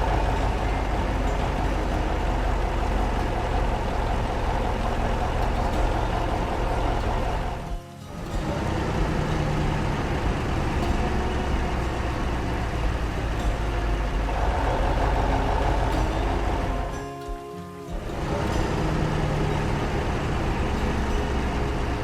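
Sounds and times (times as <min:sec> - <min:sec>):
heavy engine rumbling: 0:00.0 - 0:22.0.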